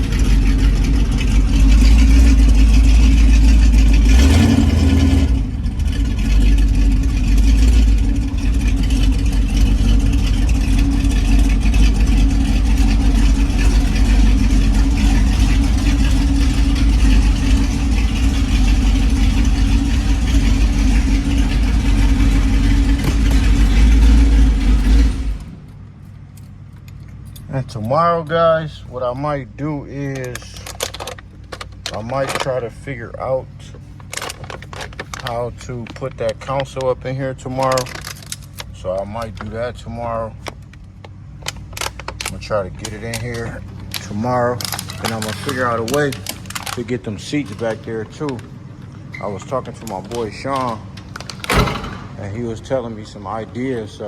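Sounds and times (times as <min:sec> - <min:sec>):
car engine and exhaust droning: 0:00.0 - 0:54.0.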